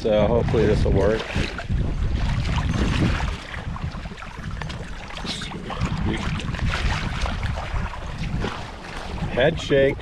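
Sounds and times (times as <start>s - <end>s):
water sloshing and splashing: 0.0s - 10.0s
wind buffeting microphone: 0.0s - 10.0s.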